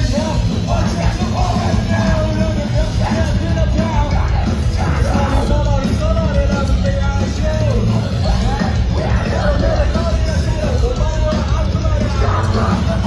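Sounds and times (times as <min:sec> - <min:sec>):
bass guitar: 0:00.0 - 0:13.0
drums: 0:00.0 - 0:13.0
electric guitars: 0:00.0 - 0:13.0
person singing: 0:00.0 - 0:13.0.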